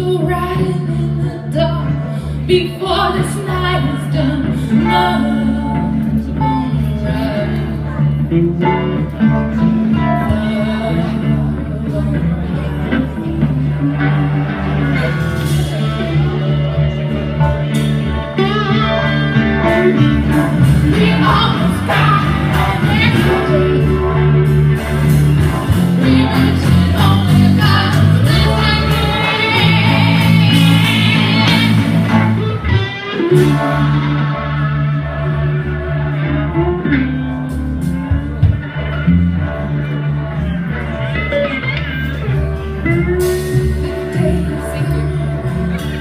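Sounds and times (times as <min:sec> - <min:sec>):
drums: 0:00.0 - 0:46.0
lead electric guitar: 0:00.0 - 0:46.0.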